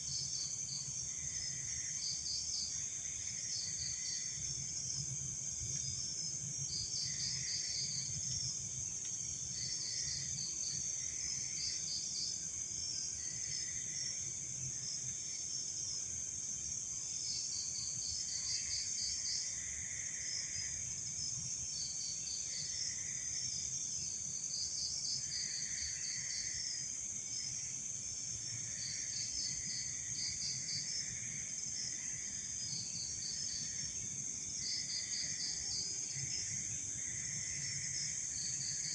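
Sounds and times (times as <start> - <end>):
crickets trilling: 0.0 - 38.9
insects droning: 0.0 - 38.9
low insect call: 0.0 - 38.9.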